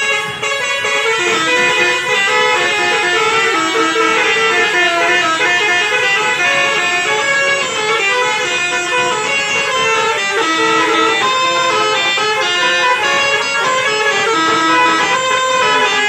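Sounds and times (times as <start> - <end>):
musical air horns playing a tune: 0.0 - 16.0.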